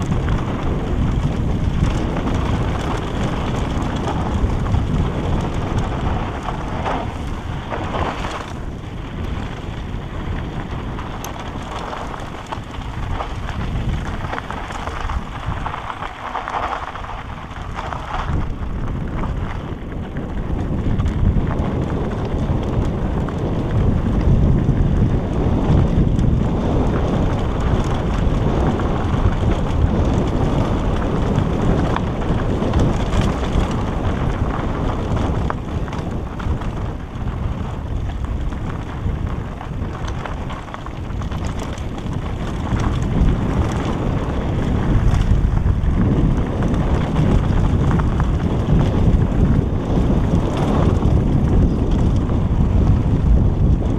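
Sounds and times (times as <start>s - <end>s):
tyres crunching over gravel: 0.0s - 53.9s
wind buffeting microphone: 0.0s - 53.9s.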